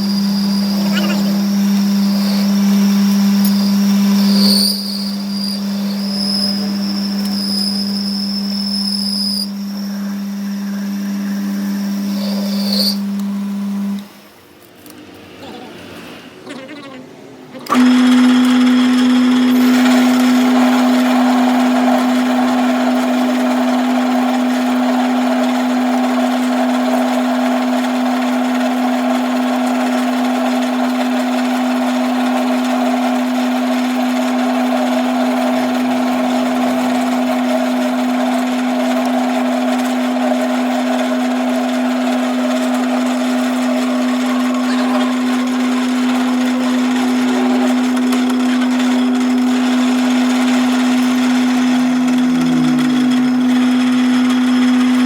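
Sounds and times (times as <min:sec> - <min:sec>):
harsh rough grinding noise: 0:00.0 - 0:13.4, 0:17.8 - 0:55.0
electric workshop machine humming: 0:00.0 - 0:15.0, 0:17.6 - 0:55.0.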